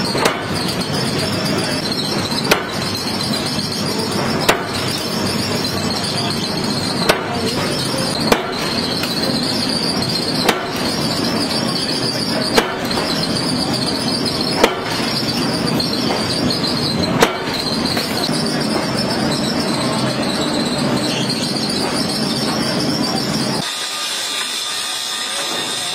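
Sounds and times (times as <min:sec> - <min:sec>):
forging press striking steel: 0:00.0 - 0:25.9
machinery din: 0:00.0 - 0:25.9.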